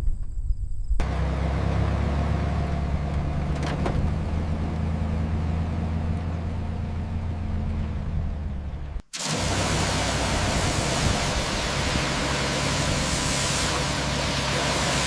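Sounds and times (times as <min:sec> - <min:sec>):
engine humming: 0:01.0 - 0:15.0.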